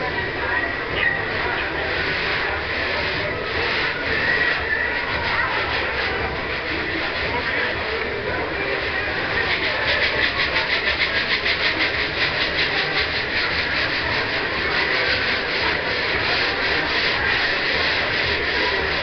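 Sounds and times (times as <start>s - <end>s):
rhythmic sanding strokes: 0.0s - 19.0s
steady rushing noise: 0.0s - 19.0s.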